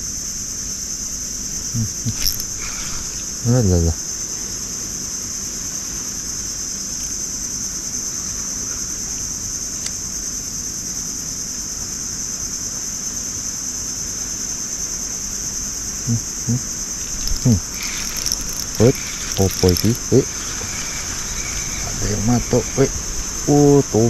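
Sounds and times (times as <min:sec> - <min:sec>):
insect chorus drone: 0:00.0 - 0:24.0.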